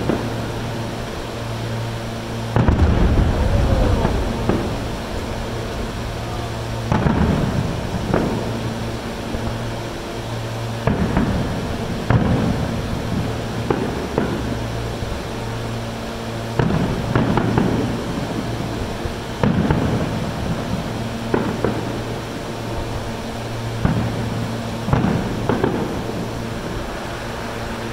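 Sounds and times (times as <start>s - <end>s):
fireworks booming and crackling: 0.0s - 27.9s
steady low hum: 0.0s - 27.9s.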